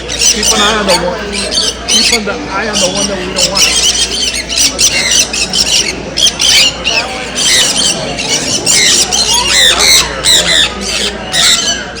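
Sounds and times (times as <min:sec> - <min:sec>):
birds squawking and chirping: 0:00.0 - 0:12.0
murmur of voices: 0:00.0 - 0:12.0.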